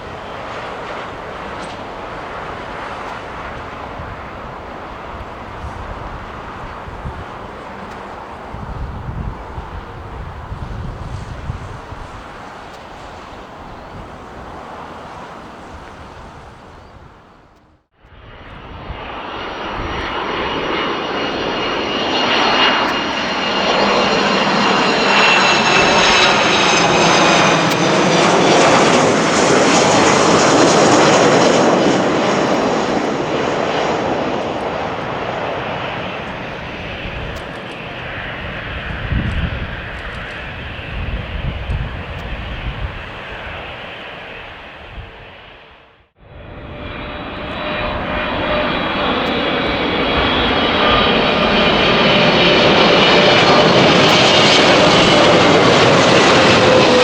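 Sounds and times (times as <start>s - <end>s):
jet airliner passing: 0.0s - 57.0s.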